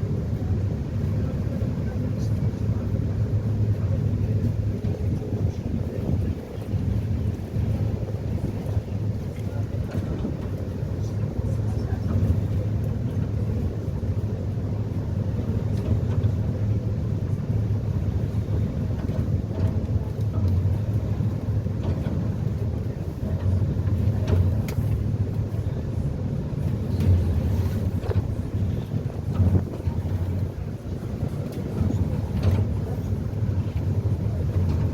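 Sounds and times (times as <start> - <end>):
ferry engines droning: 0.0 - 34.9.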